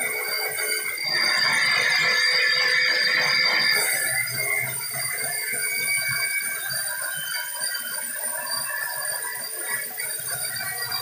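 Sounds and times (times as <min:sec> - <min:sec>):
mechanical noise: 0:00.0 - 0:11.0.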